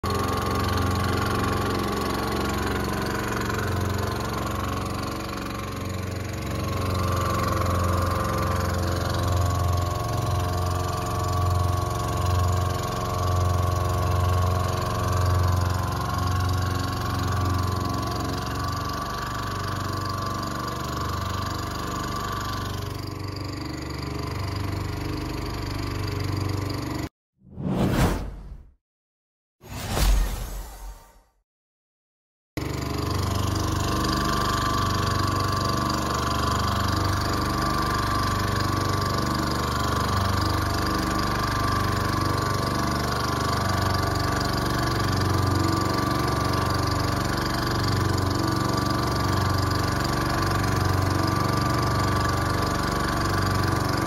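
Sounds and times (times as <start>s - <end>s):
small boat engine throbbing: 0.1s - 27.1s, 32.7s - 54.0s.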